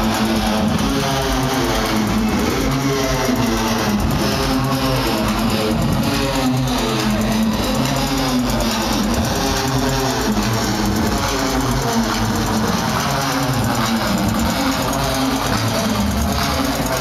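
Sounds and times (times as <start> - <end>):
loud techno music: 0.0 - 17.0.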